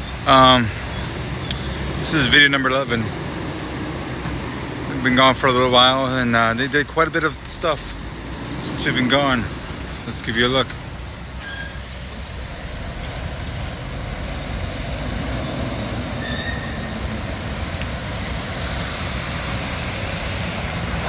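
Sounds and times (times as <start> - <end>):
steady rumbling noise: 0.0 - 21.0.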